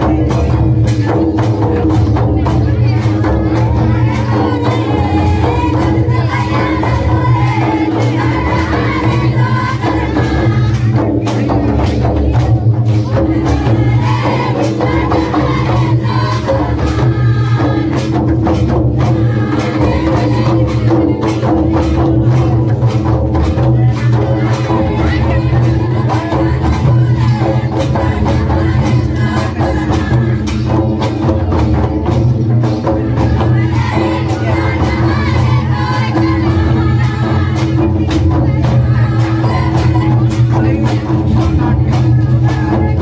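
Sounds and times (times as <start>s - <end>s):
drum beat: 0.0s - 43.0s
group singing folk song: 0.0s - 43.0s.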